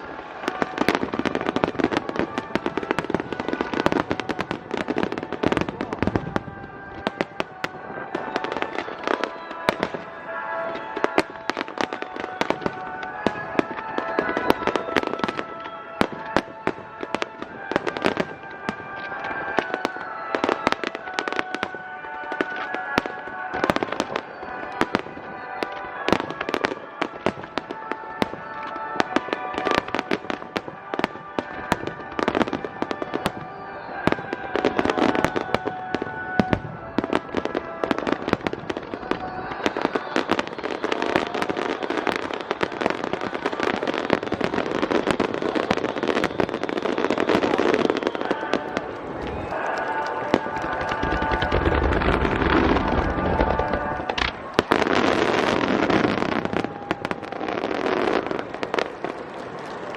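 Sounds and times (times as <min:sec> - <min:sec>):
fireworks bursting with bangs: 0:00.0 - 0:59.9
fireworks crackling: 0:00.0 - 0:59.9
music: 0:00.0 - 0:59.9.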